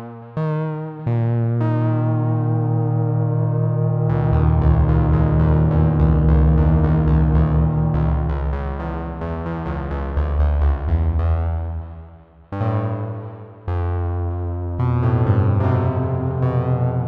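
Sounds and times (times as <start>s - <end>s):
synthesizer electric piano chords: 0.0s - 10.9s, 12.6s - 17.0s.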